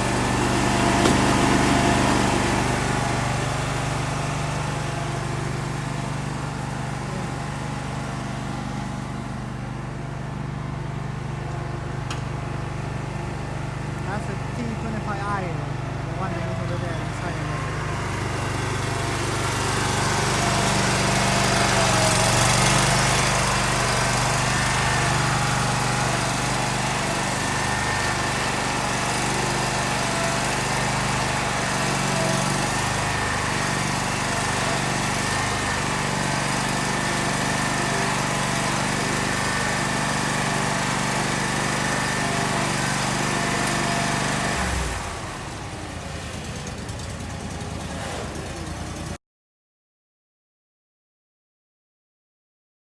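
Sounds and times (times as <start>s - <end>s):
riding mower engine running: 0.0s - 49.2s.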